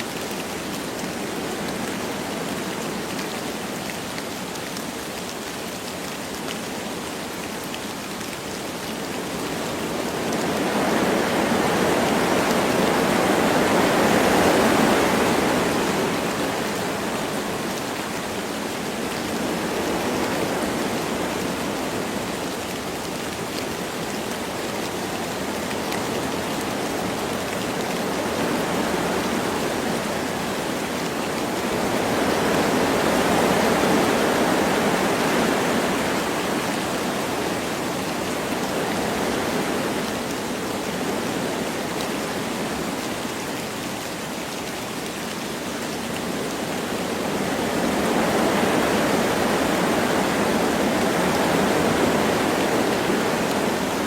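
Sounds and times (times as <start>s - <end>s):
light rain falling: 0.0s - 54.0s
wind through trees: 0.0s - 54.0s.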